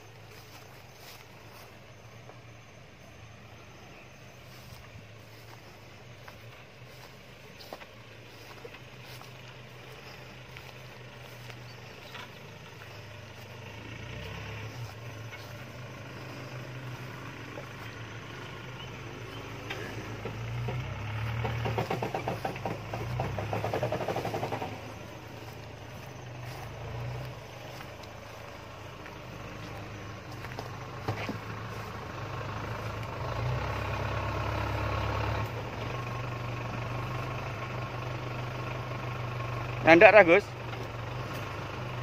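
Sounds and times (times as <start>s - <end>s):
jeep engine running: 0.0s - 42.0s.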